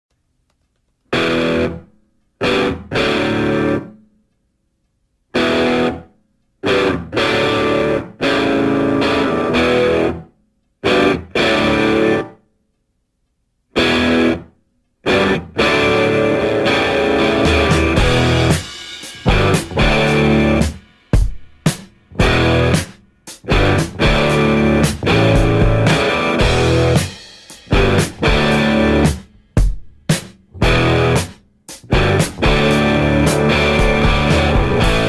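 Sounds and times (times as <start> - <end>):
distorted electric guitar phrases: 1.1 - 4.1, 5.3 - 12.4, 13.7 - 29.7, 30.5 - 35.0.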